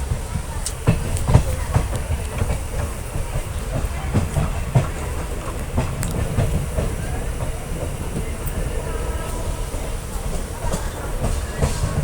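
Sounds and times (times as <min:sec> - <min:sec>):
train rumbling: 0:00.0 - 0:12.0
wheels clicking over rail joints: 0:00.0 - 0:12.0.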